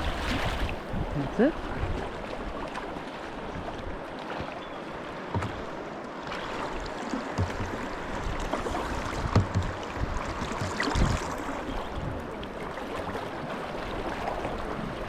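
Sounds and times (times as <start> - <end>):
kayak paddles thumping: 0.0 - 15.0
river water rushing: 0.0 - 15.0.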